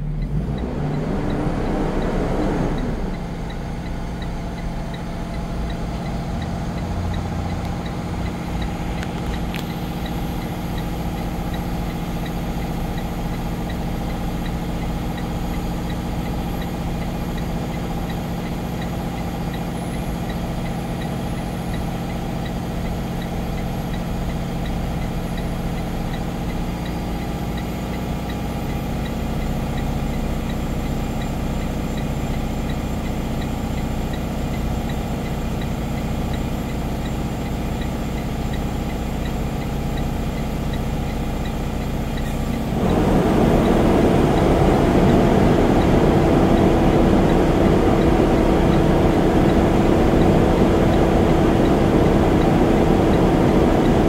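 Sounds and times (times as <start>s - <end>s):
diesel bus engine idling: 0.0s - 54.0s
hazard-light flasher ticking: 2.8s - 54.0s.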